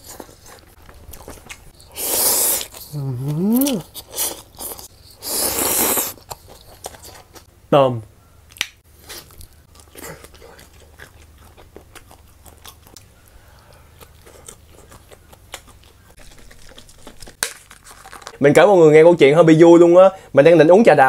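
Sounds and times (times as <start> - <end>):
person crunching and chewing: 0.0 - 7.5, 8.5 - 18.4.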